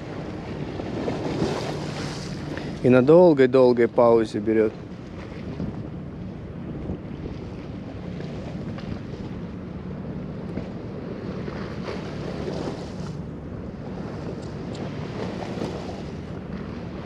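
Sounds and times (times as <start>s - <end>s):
sea waves washing: 0.0s - 17.0s
wind rumble on microphone: 0.0s - 17.0s.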